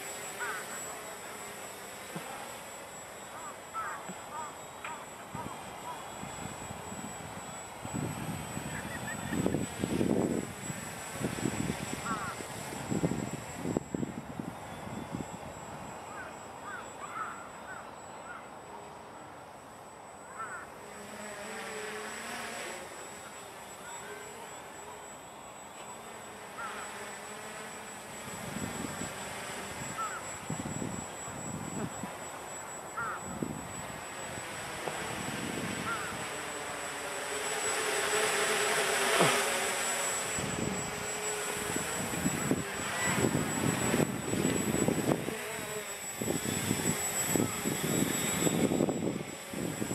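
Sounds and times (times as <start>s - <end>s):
drone propellers buzzing: 0.0s - 49.9s
quadcopter motors whining: 0.0s - 49.9s.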